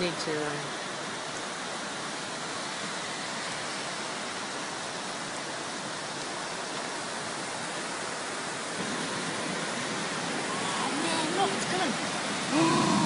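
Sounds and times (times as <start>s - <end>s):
rushing flood water and rain: 0.0s - 13.0s.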